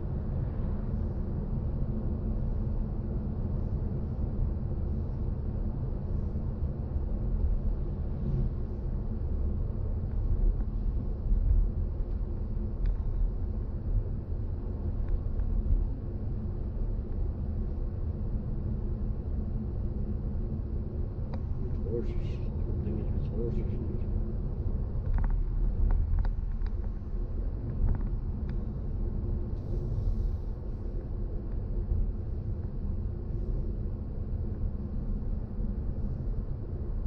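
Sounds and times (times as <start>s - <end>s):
car tyre and road noise: 0.0s - 37.0s.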